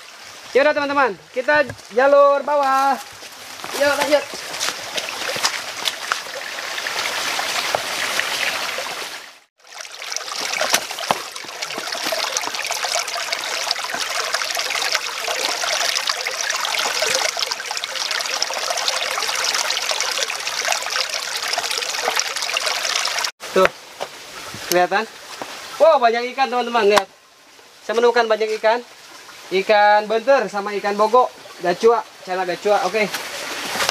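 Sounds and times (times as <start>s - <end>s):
stream trickling over stones: 0.0s - 33.9s.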